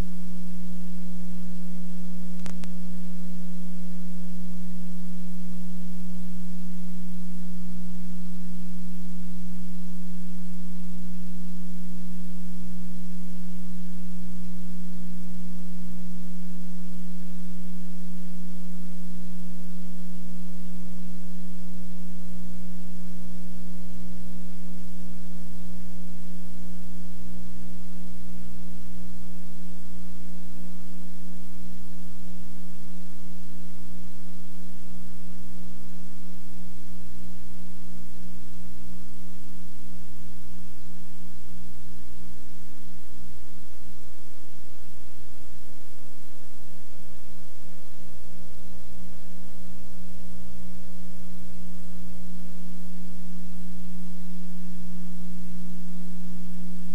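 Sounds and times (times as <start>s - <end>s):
electrical hum: 0.0s - 56.9s.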